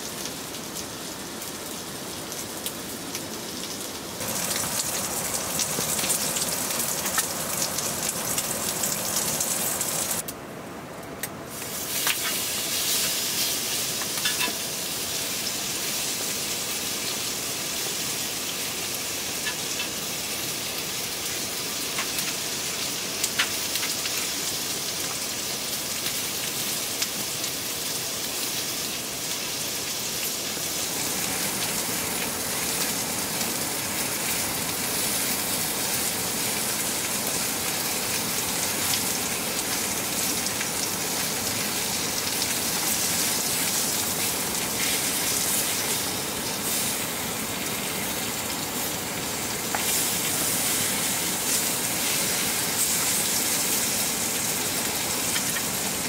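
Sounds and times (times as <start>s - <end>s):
meat sizzling on griddle: 0.0s - 10.2s, 11.5s - 56.0s
rain hiss: 0.0s - 10.7s, 11.3s - 56.0s.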